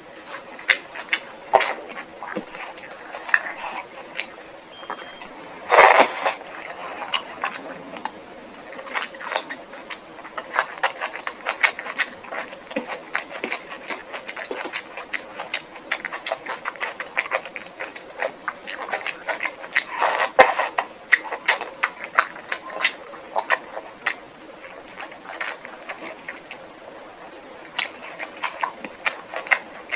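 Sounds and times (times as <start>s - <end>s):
chewing with clicks and smacks: 0.0s - 29.9s.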